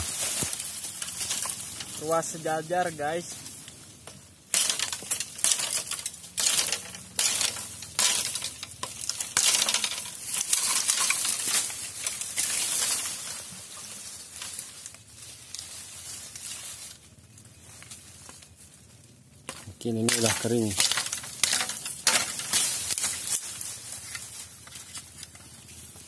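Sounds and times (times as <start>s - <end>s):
bamboo cracking and snapping: 0.0s - 2.2s, 3.4s - 26.0s
dry leaves crunching: 0.0s - 26.0s.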